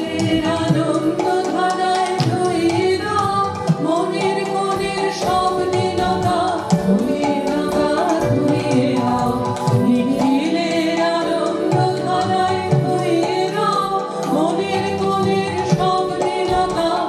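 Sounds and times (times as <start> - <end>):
group singing: 0.0 - 17.0.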